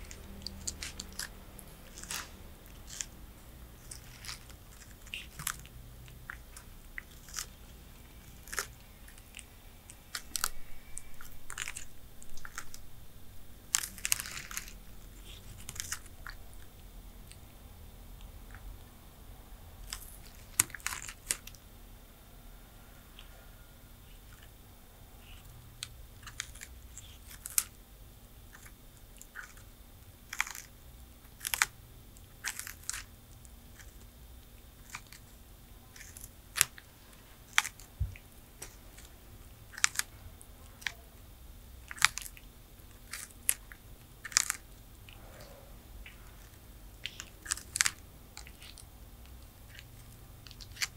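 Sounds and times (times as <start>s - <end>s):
tortoises chewing crunchy food: 0.0s - 50.9s.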